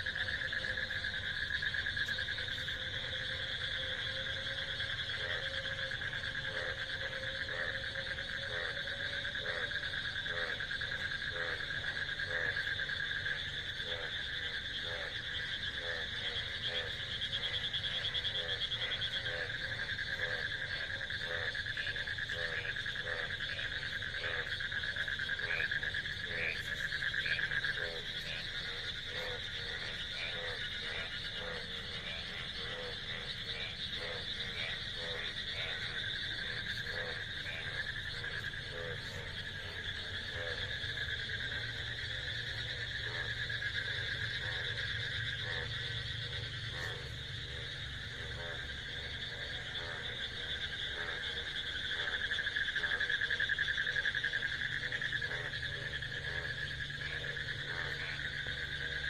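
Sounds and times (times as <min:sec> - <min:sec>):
frog croaking: 0:00.0 - 0:59.0
frogs trilling: 0:00.0 - 0:59.0.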